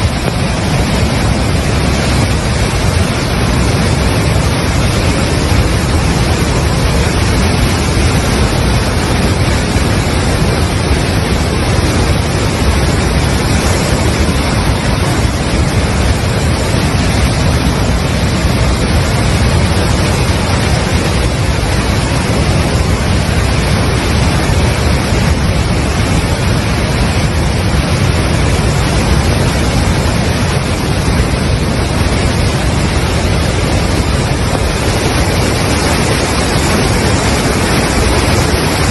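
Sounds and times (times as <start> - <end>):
flooded river rushing: 0.0 - 38.9.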